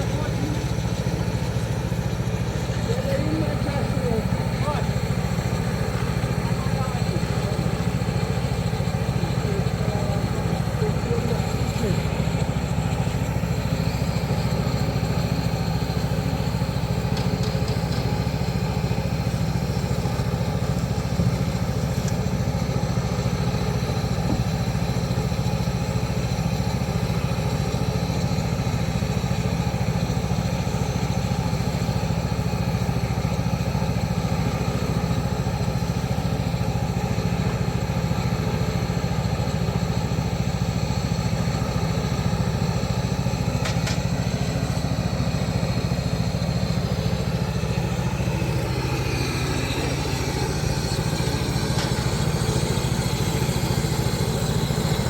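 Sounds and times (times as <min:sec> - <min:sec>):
small engine humming: 0:00.0 - 0:55.0.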